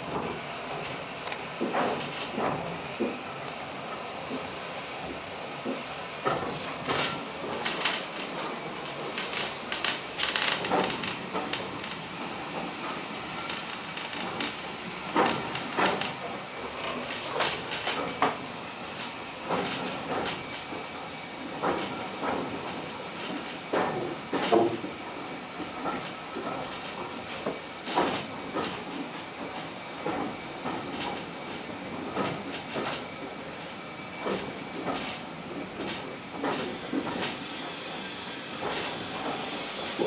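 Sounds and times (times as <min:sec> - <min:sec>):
steam hiss: 0:00.0 - 0:40.0
train knocking and rattling on track: 0:00.0 - 0:40.0.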